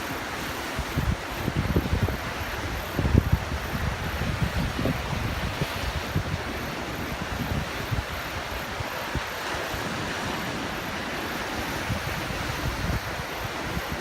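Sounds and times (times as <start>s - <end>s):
sea surf on shore: 0.0s - 14.0s
wind buffeting microphone: 0.7s - 14.0s.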